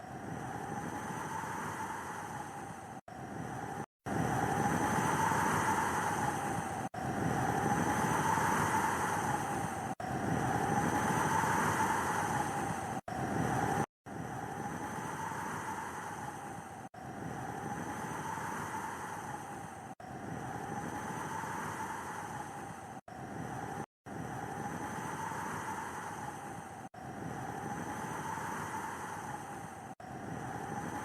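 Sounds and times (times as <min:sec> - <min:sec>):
blizzard wind howling: 0:00.0 - 0:31.0.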